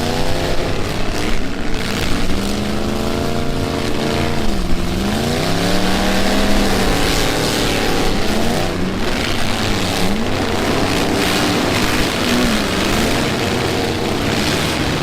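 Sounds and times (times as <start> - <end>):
loud roar of engines: 0.0 - 15.0
truck engines revving: 0.0 - 15.0.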